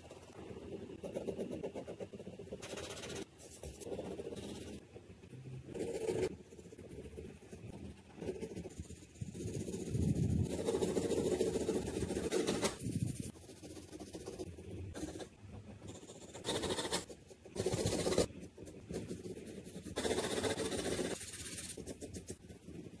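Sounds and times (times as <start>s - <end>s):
pencil scratching on paper: 0.0s - 23.0s.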